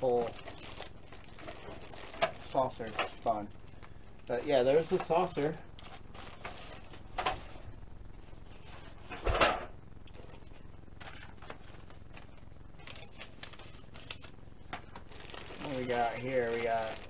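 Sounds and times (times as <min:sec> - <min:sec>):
paper and plastic bags rustling: 0:00.0 - 0:09.2, 0:10.2 - 0:17.0.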